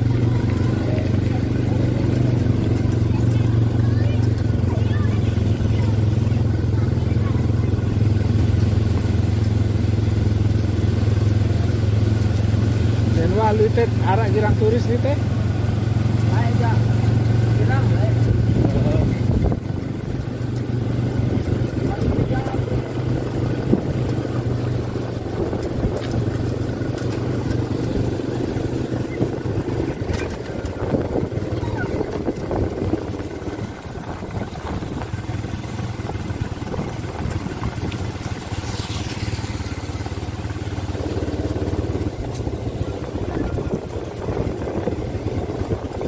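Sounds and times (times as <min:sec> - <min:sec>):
quad bike engine running: 0:00.0 - 0:46.0.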